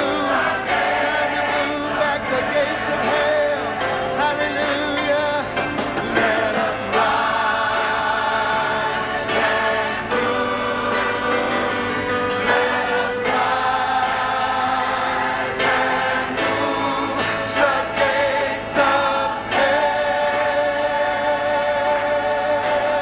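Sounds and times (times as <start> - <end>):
mixed choir singing gospel: 0.0 - 23.0.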